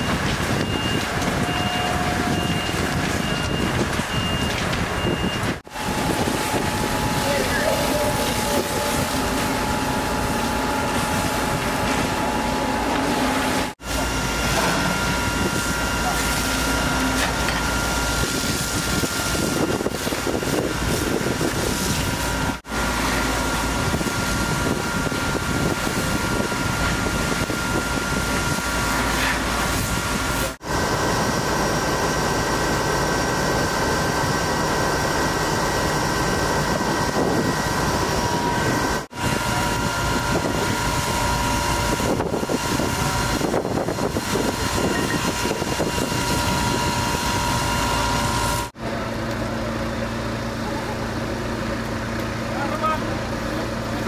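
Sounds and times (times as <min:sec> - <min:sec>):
fire engine pumps running: 0:00.0 - 0:54.0
thin steady whines: 0:00.0 - 0:54.0.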